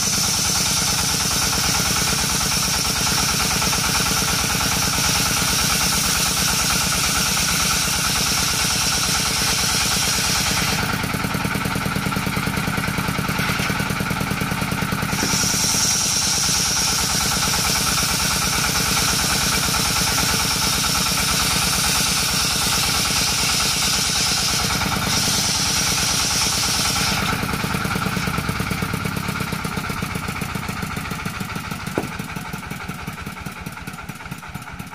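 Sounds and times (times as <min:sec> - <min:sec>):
circular saw cutting wood: 0:00.0 - 0:34.7.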